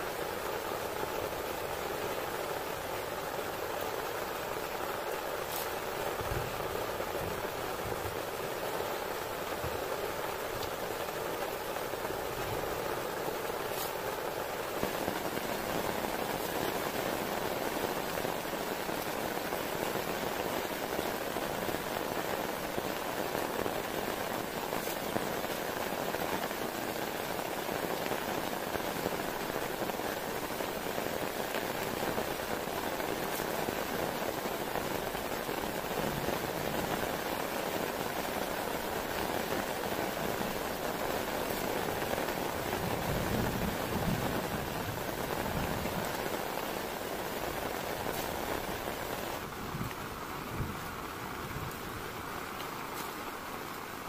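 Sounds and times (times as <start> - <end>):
heavy rain on a tent: 0.0 - 54.0
raindrops ticking: 0.1 - 54.0.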